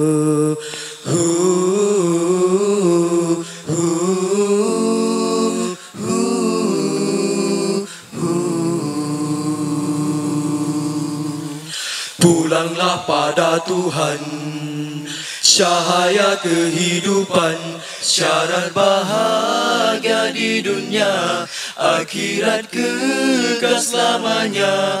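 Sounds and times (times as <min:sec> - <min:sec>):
vocal group singing a cappella: 0:00.0 - 0:25.0.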